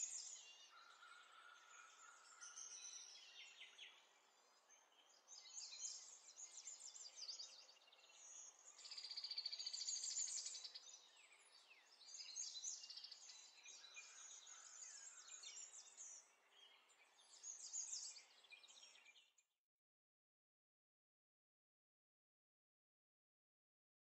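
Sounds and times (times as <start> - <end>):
small birds chirping and trilling: 0.0 - 19.4.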